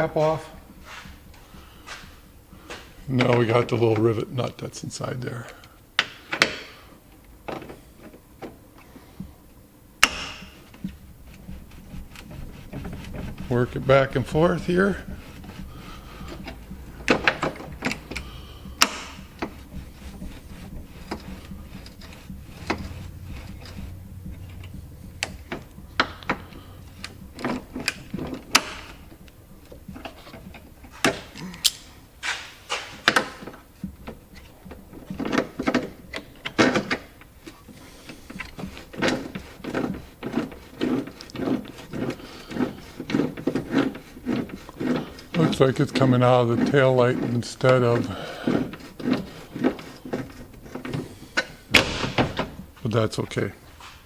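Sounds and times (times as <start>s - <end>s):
hand tool clicking and scraping: 0.0s - 9.4s, 10.0s - 54.0s.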